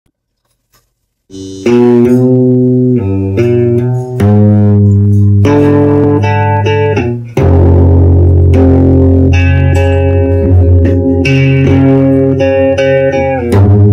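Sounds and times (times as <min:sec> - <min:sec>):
bass line: 0:01.3 - 0:13.9
plucked guitar chords: 0:01.3 - 0:13.9.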